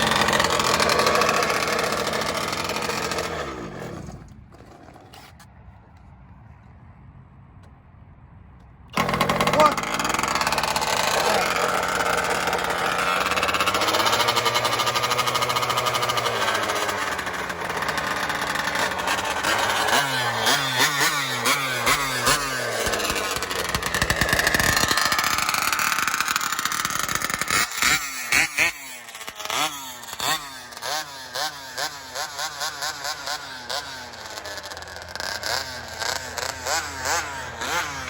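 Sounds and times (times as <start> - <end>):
small two-stroke engine revving: 0.0 - 5.3, 9.0 - 38.0.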